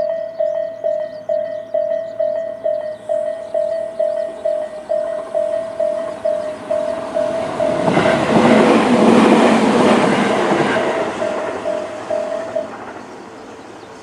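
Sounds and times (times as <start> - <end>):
level crossing alarm beeping: 0.0 - 13.0
train wheels rushing on rails: 0.0 - 14.0.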